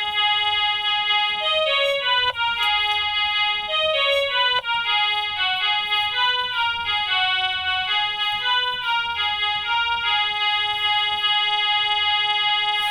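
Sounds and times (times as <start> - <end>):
toy keyboard melody: 0.0 - 12.9.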